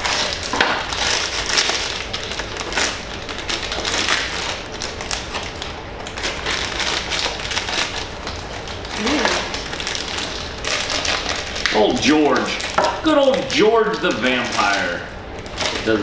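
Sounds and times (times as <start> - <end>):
wrapping crinkling and crackling: 0.0 - 16.0.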